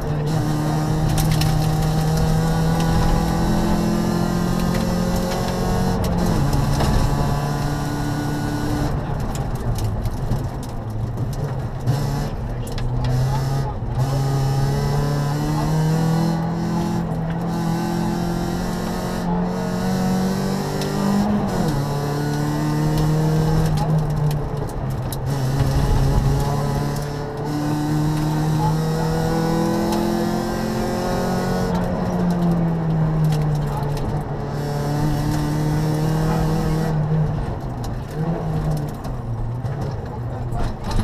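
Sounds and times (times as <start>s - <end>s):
rally car engine accelerating: 0.0s - 41.0s.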